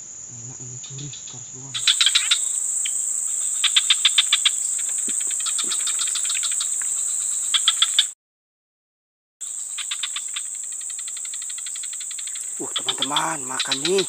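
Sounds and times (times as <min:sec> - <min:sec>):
insects chirping: 0:00.0 - 0:08.2, 0:09.4 - 0:14.0
insects droning: 0:00.0 - 0:08.2, 0:09.4 - 0:14.0.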